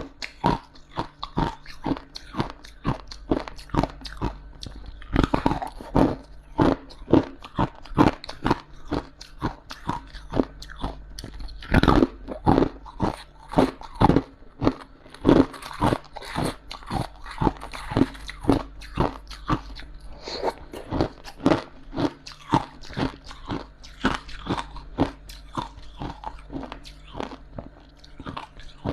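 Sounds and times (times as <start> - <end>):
crunchy chewing of frost: 0.0 - 28.9.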